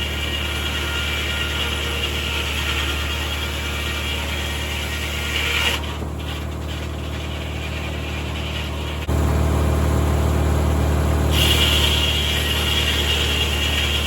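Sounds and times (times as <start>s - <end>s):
saw cutting: 0.0s - 9.8s, 11.0s - 14.0s
sawmill low drone: 0.0s - 14.0s.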